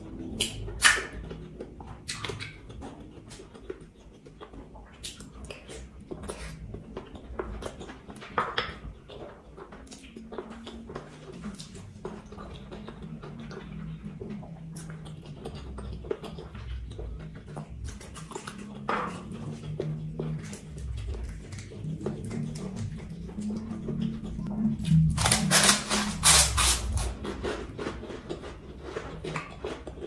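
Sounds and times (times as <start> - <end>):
person chewing wetly: 0.0 - 30.0.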